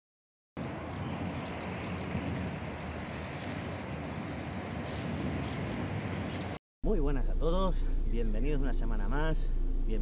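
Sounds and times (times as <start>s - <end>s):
low rumbling outdoor noise: 0.6s - 10.0s.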